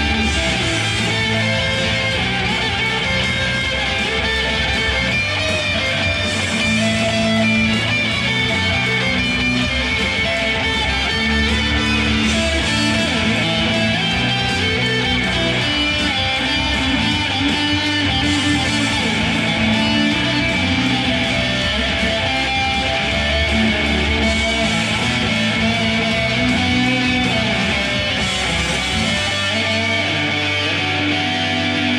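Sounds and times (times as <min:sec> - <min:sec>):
electric guitar chords: 0:00.0 - 0:31.9.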